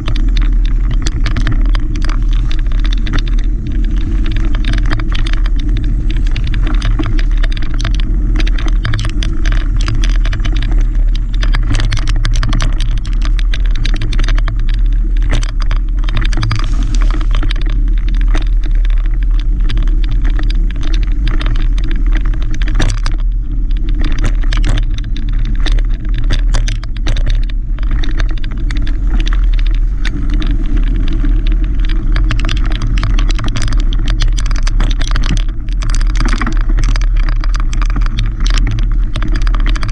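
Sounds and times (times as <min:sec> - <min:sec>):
bike clicking and rattling: 0:00.0 - 0:39.9
wind and riding rumble: 0:00.0 - 0:39.9.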